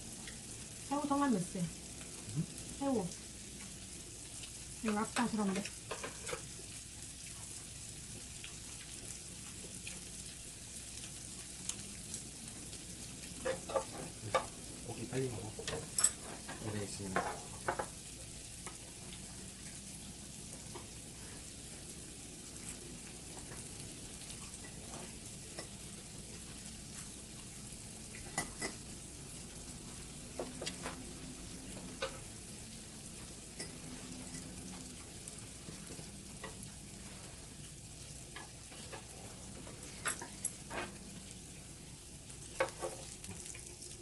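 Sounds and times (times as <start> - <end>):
meat and prawns sizzling on grill: 0.0 - 44.0.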